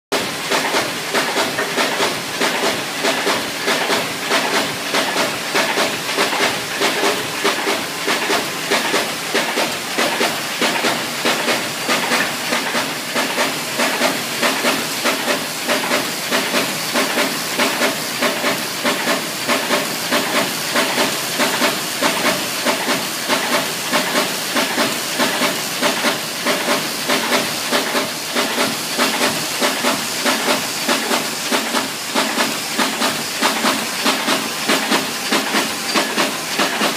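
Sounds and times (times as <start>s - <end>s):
mechanical clatter of folding machine: 0.1s - 36.9s
hiss of air: 0.2s - 36.9s.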